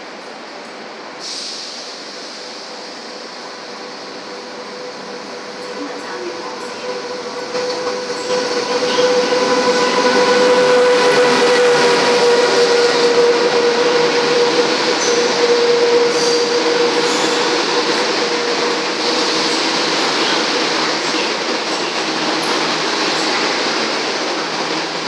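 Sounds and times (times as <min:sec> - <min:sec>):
train wheels rushing on rail: 0:00.0 - 0:25.0.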